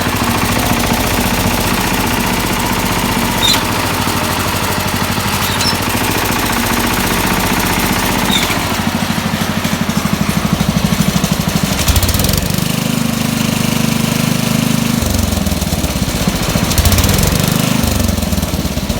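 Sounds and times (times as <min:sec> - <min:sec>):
tractor engine running and revving: 0:00.0 - 0:18.9.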